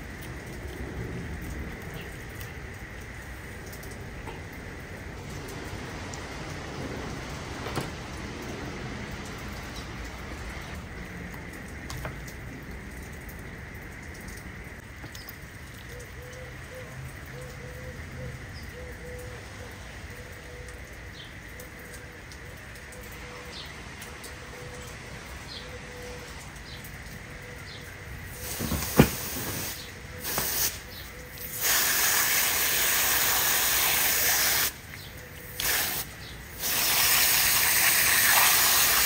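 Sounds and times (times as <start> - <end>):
steady outdoor hiss: 0.0 - 39.0.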